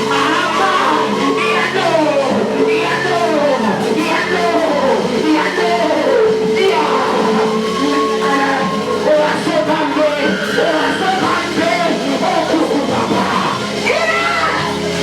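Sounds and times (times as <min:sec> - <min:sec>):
people singing: 0:00.0 - 0:15.0
people yelling: 0:00.0 - 0:15.0
worship music with held chords: 0:00.0 - 0:15.0.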